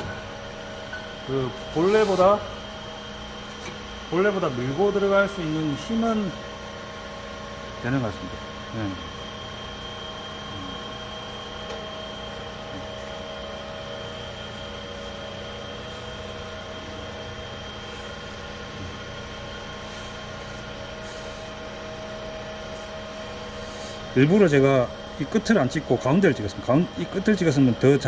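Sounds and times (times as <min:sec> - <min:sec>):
hydraulic pump motor humming: 0:00.0 - 0:28.0.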